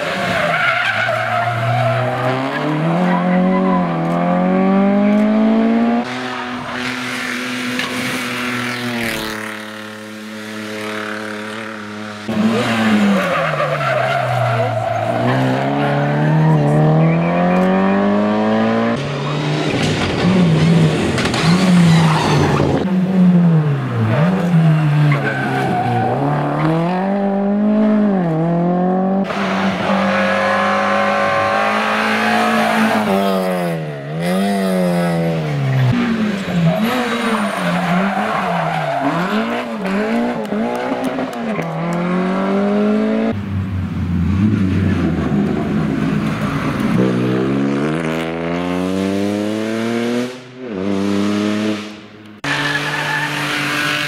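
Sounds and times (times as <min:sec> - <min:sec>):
rally cars racing past: 0:00.0 - 0:54.0.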